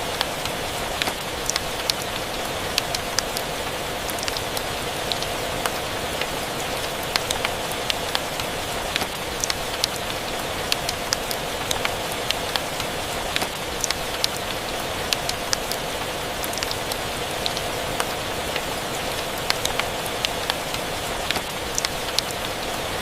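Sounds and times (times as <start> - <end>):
steady rain hiss: 0.0 - 23.0
fire crackling ticks and pops: 0.1 - 15.8, 16.4 - 22.6.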